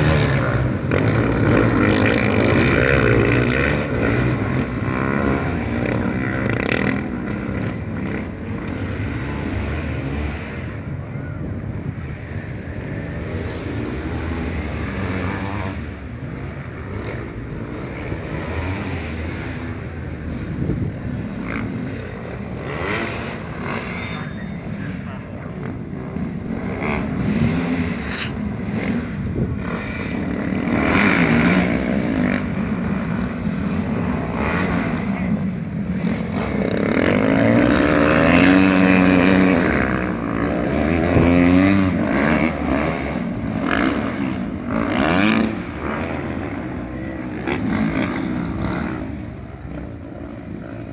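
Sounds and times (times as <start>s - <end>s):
racing motorcycle engines: 0.0s - 50.9s.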